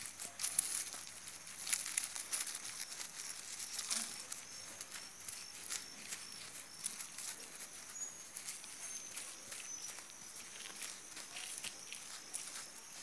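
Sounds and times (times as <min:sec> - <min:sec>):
hand scraping through dry soil: 0:00.0 - 0:13.0.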